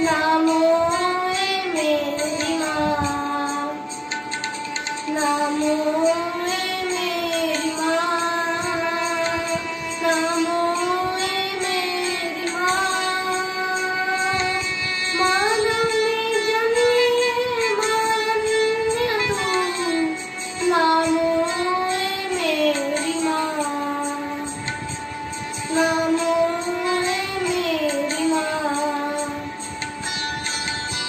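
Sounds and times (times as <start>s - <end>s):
boy singing a hymn: 0.0s - 3.8s, 5.1s - 24.6s, 25.6s - 29.5s.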